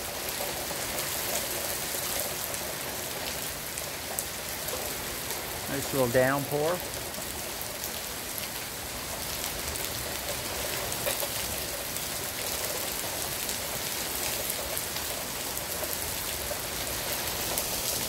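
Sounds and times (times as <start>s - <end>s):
heavy rain hissing: 0.0s - 18.0s
sharp ticks of raindrops: 0.0s - 18.0s.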